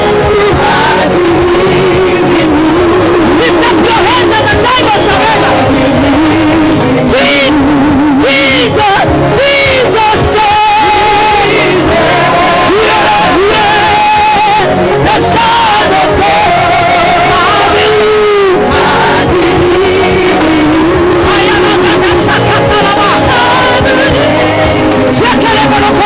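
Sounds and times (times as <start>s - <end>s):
band accompaniment: 0.0s - 26.0s
person singing with vibrato: 0.0s - 26.0s.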